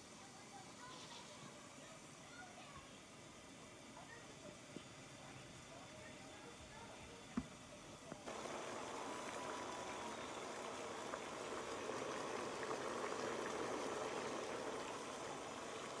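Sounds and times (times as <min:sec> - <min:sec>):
water boiling and bubbling: 0:00.0 - 0:16.0.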